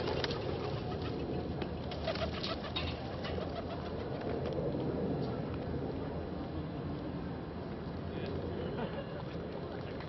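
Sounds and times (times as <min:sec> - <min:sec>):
outdoor noise: 0:00.0 - 0:10.0.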